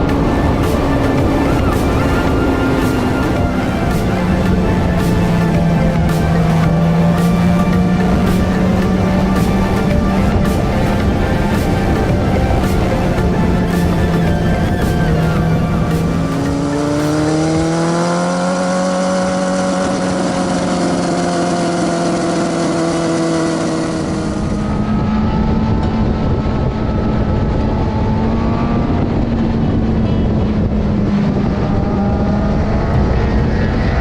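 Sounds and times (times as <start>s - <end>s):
motorcycle engine running: 0.0s - 34.0s
wind rush: 0.0s - 34.0s.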